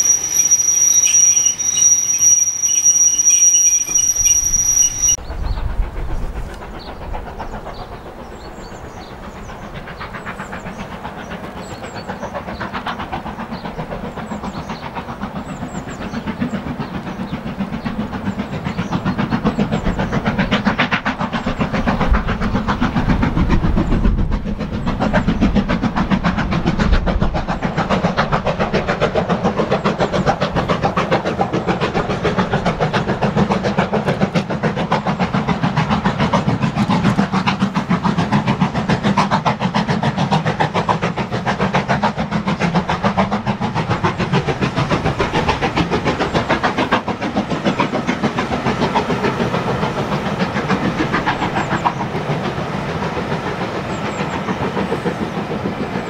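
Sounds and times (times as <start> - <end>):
coaches rumbling on rails: 0.0 - 56.0
steam locomotive chuffing: 0.0 - 56.0.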